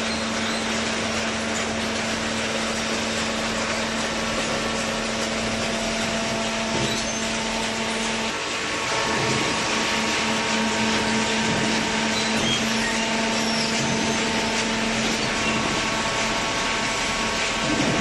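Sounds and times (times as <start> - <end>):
hydraulic motor hum: 0.0 - 18.0.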